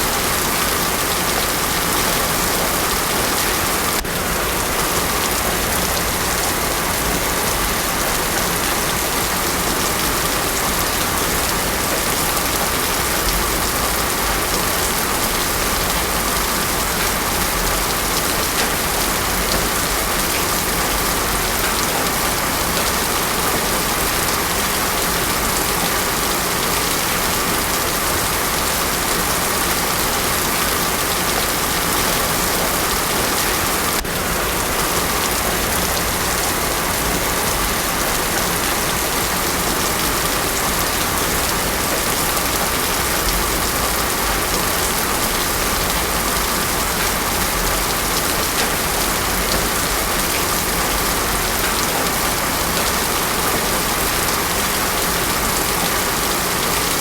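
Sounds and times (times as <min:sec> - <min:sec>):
heavy rain on a road: 0:00.0 - 0:57.0.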